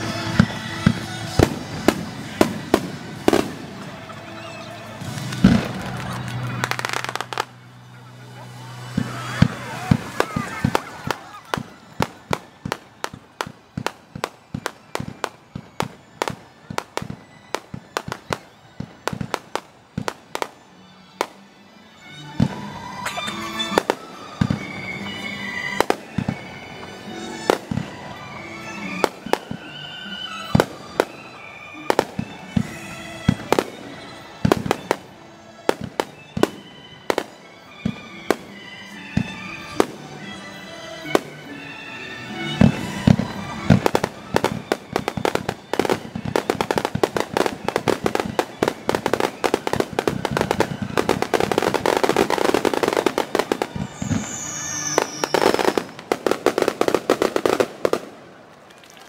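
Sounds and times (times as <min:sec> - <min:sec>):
fireworks bangs and crackle: 0:00.0 - 0:21.4, 0:22.0 - 0:58.8
falling firework whistle: 0:08.6 - 0:21.4, 0:22.0 - 0:58.2.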